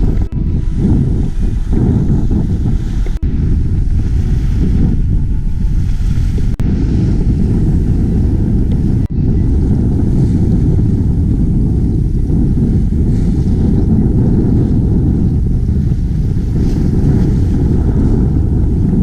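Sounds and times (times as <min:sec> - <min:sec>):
water noise: 0:00.0 - 0:19.0
wind buffeting microphone: 0:00.0 - 0:19.0.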